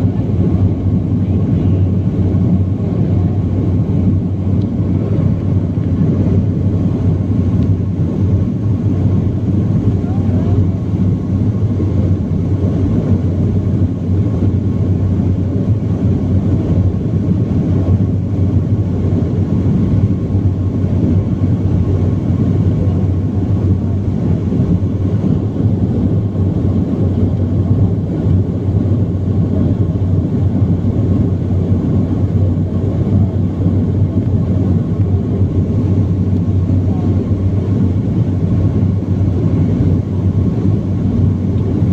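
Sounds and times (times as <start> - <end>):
airliner cabin engine rumble: 0.0 - 41.9
faint steady whine: 0.0 - 41.9.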